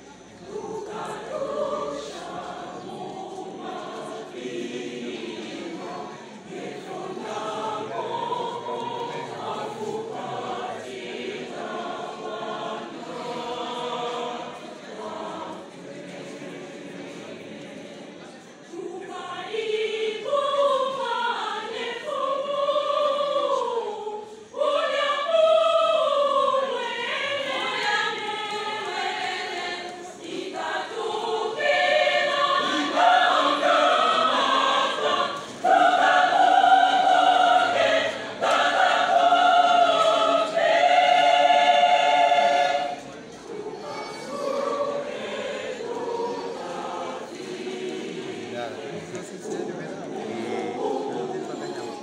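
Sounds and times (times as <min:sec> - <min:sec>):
choir singing a hymn: 0:00.0 - 0:52.0.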